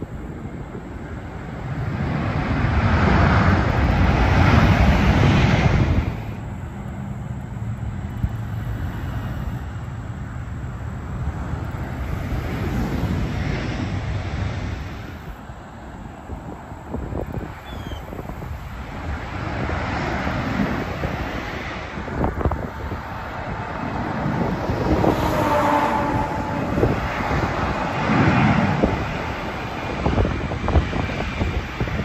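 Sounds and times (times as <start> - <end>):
cars passing: 0.0 - 32.0
jet airliner engines rumbling: 0.0 - 32.0.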